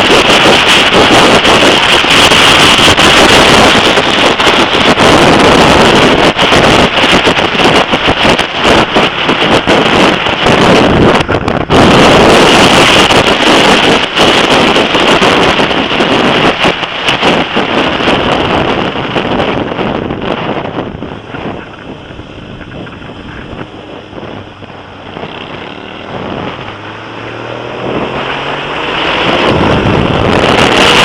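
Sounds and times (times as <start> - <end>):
motorcycle engine: 0.0 - 31.0
wind buffeting microphone: 0.0 - 31.0.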